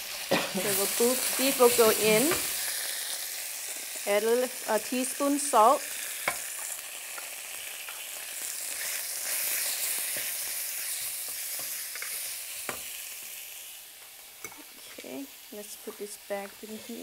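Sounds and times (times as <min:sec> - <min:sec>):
beef sizzling in wok: 0:00.0 - 0:17.0.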